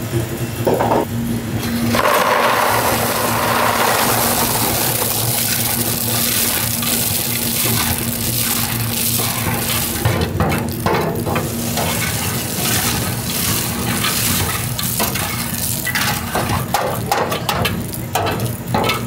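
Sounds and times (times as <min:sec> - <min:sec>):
machinery low hum: 0:00.0 - 0:19.0.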